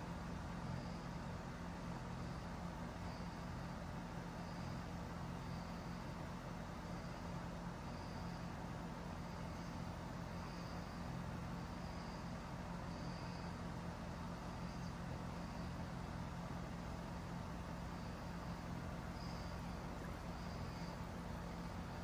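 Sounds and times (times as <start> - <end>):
constant low hum: 0.0 - 22.0
faint high insect chirps: 0.0 - 22.0.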